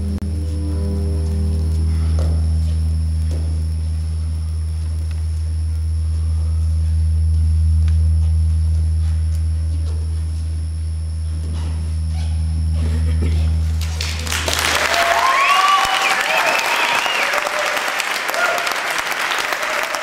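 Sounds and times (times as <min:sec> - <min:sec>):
steady low drone: 0:00.0 - 0:17.3.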